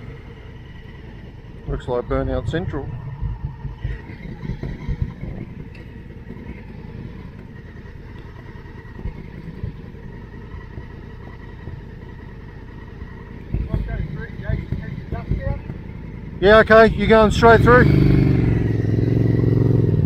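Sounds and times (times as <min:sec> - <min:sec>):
motorcycle engine idling: 0:00.0 - 0:20.0
wind buffeting microphone: 0:00.0 - 0:20.0.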